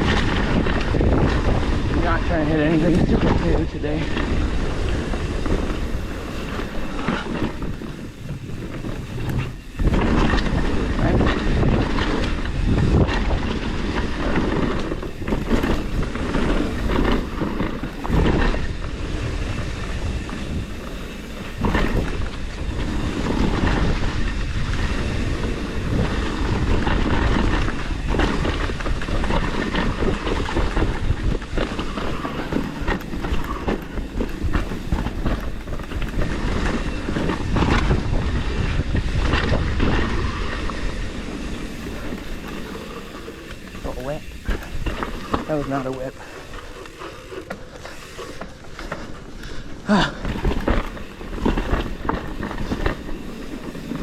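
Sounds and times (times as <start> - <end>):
bike chain and frame rattling: 0.0 - 54.0
bike tyres rolling over dirt: 0.0 - 54.0.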